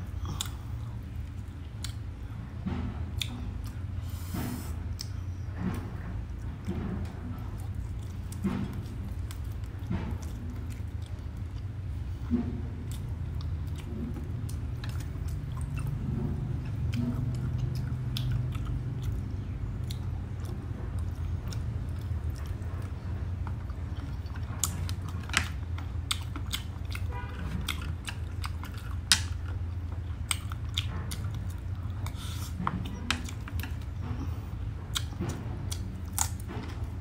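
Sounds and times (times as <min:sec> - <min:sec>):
low hum: 0:00.0 - 0:37.0
chewing crispy food: 0:03.1 - 0:37.0.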